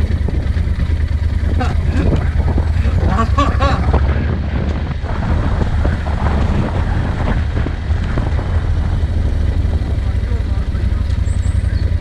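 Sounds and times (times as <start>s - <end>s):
vehicle engine rumbling: 0.0s - 12.0s
wind buffeting microphone: 0.0s - 12.0s.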